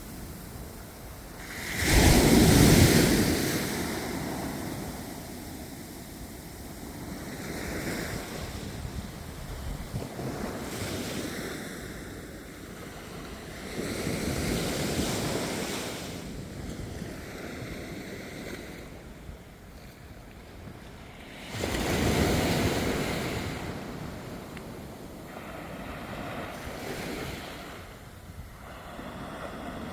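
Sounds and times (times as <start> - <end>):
sea waves breaking on beach: 0.0 - 19.0, 20.8 - 29.9.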